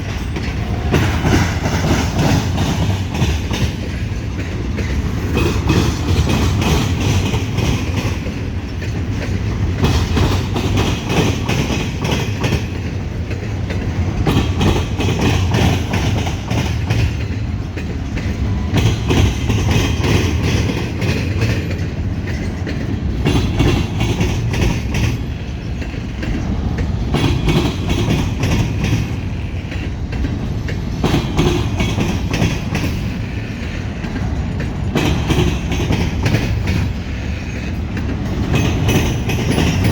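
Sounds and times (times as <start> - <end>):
train low rumble: 0.0 - 39.9
train wheels clattering over rail joints: 0.0 - 39.9.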